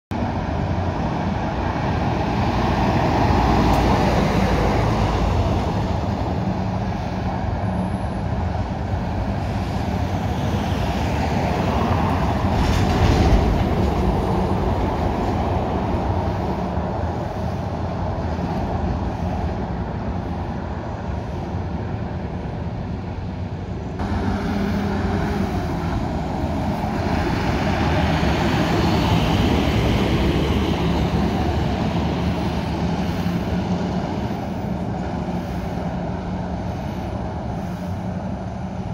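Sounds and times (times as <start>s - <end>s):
heavy traffic engine drone: 0.1s - 38.9s.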